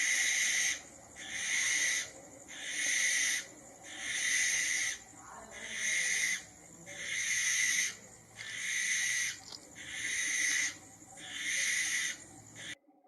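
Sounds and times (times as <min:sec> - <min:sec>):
owl hissing screeches: 0:00.0 - 0:12.8.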